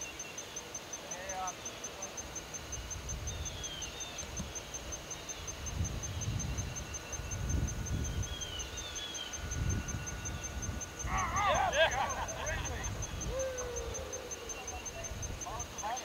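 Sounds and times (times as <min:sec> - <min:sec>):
high-pitched insect call pulsing: 0:00.0 - 0:16.0.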